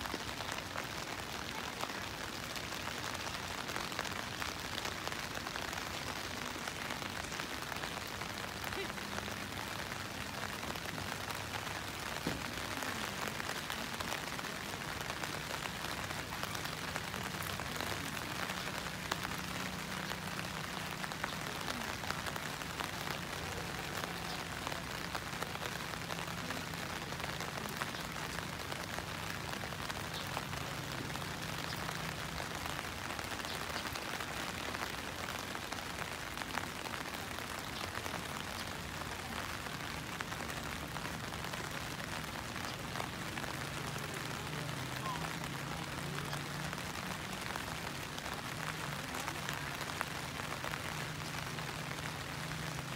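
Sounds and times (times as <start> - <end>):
rain pattering: 0.0 - 52.9.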